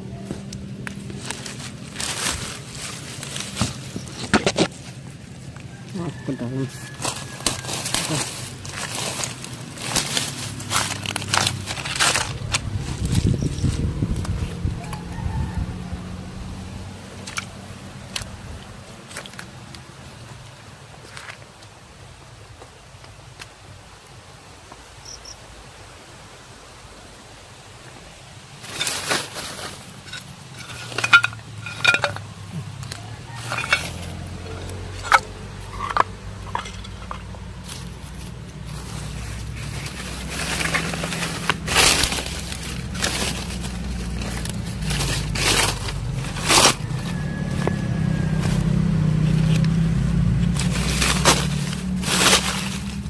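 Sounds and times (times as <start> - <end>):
leaves and twigs crackling: 0.0 - 53.0.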